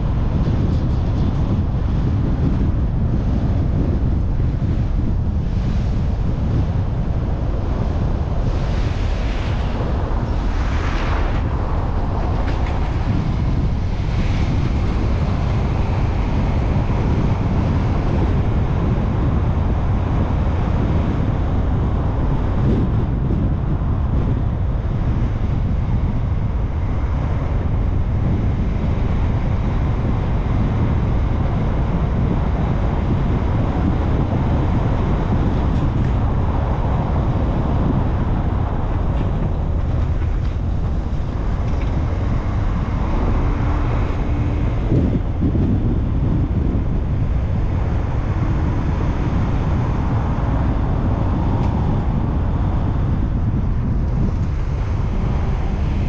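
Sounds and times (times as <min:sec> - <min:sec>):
car tyres and engine rumble: 0:00.0 - 0:56.0
wind noise: 0:00.0 - 0:56.0.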